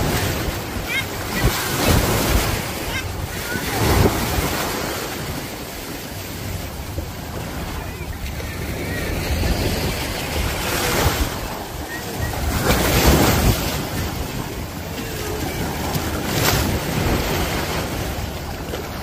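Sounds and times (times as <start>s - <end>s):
small waves breaking: 0.0s - 19.0s.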